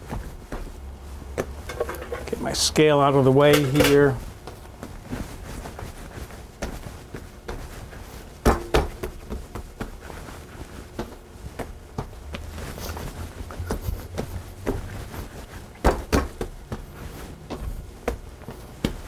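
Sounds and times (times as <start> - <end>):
hands slapping bread dough: 3.5 - 19.0.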